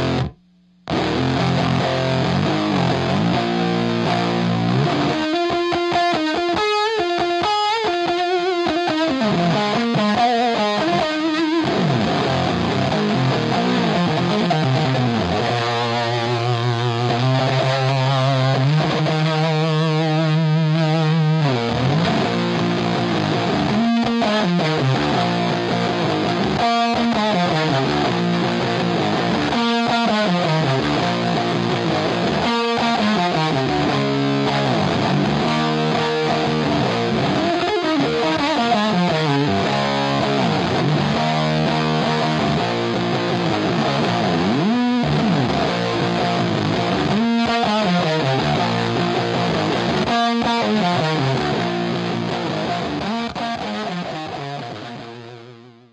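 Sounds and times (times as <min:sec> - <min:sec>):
electric guitar: 0:00.0 - 0:55.9.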